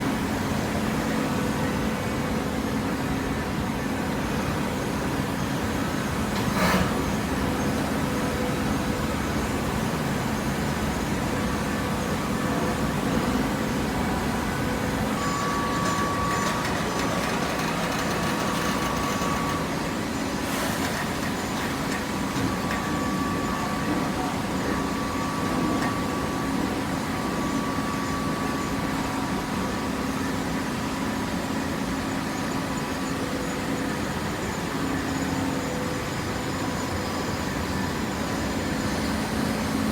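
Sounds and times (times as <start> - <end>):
thin machine whine: 0.1 - 39.9
baler machine hum: 5.5 - 39.9.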